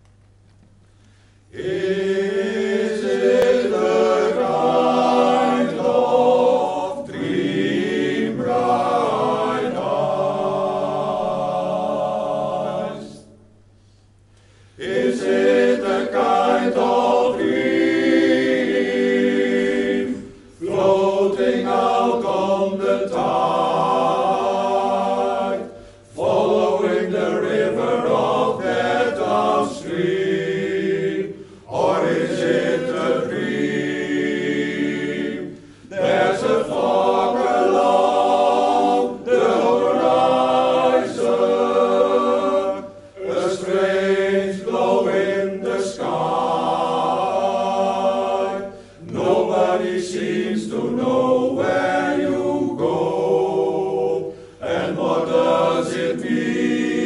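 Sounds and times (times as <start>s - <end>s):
male choir singing a cappella: 1.5s - 13.4s, 14.8s - 57.0s.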